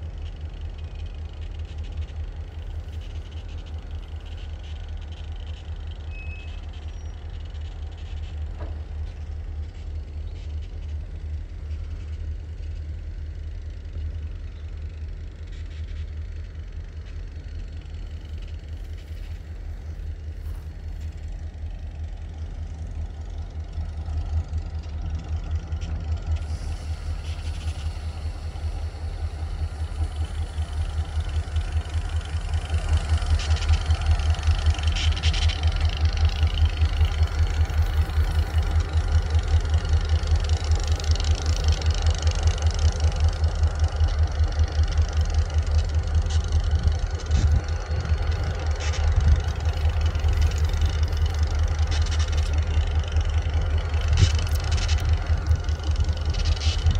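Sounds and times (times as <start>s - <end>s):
diesel locomotive engine rumble: 0.0s - 56.9s.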